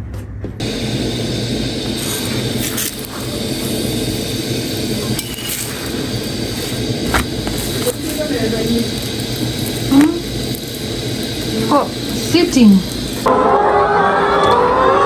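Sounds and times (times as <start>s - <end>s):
flatbread sizzling on a griddle: 0.6s - 13.3s.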